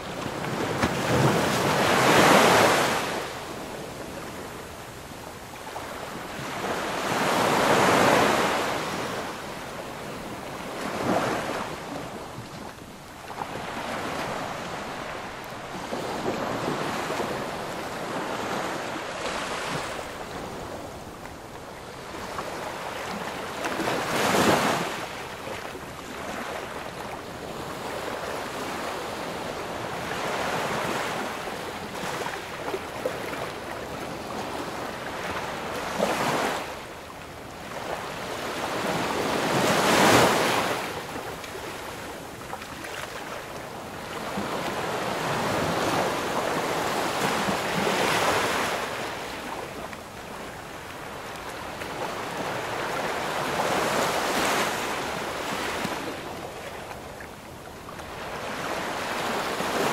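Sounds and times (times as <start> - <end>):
ocean waves breaking: 0.0 - 4.5, 5.7 - 36.9, 37.6 - 59.9.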